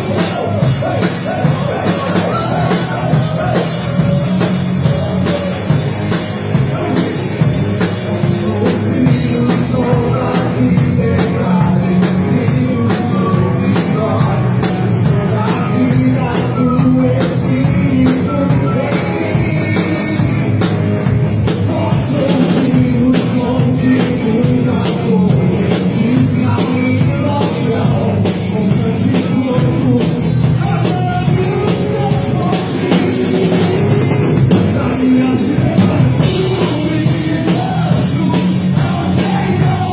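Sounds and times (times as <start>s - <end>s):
drum kit steady beat: 0.0s - 39.9s
upbeat rock band playing: 0.0s - 39.9s.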